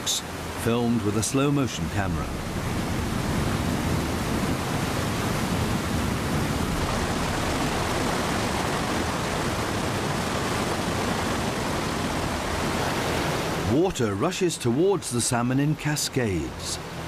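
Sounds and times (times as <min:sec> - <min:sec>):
white water rushing over rocks: 0:00.0 - 0:17.0.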